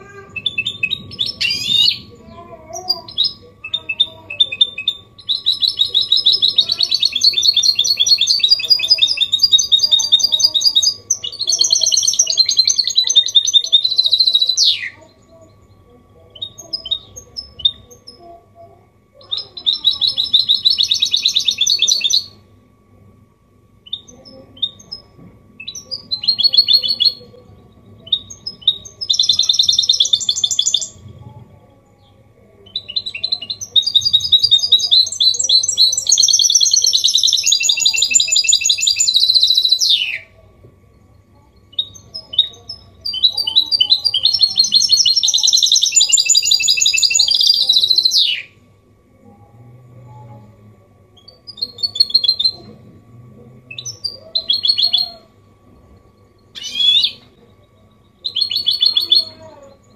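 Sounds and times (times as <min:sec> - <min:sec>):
finch singing twittering phrases: 0:00.0 - 0:18.3, 0:19.2 - 0:22.4, 0:23.8 - 0:31.0, 0:32.0 - 0:40.4, 0:41.5 - 0:48.6, 0:51.2 - 0:52.7, 0:53.7 - 0:55.3, 0:56.5 - 0:59.9.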